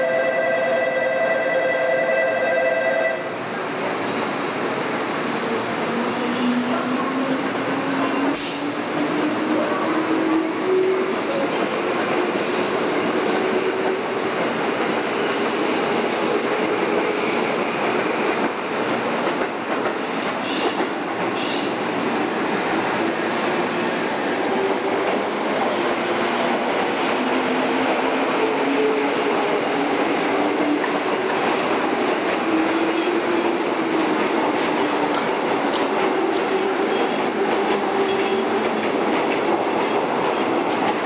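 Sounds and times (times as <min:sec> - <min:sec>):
train running noise: 0:00.0 - 0:41.0.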